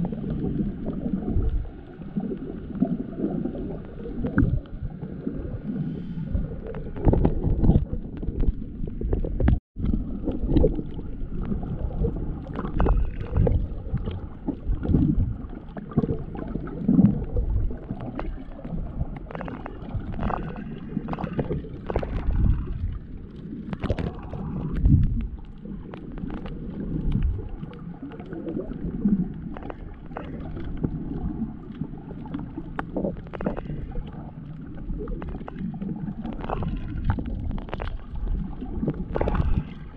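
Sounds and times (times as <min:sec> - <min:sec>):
underwater rumble and gurgle: 0:00.0 - 0:39.9.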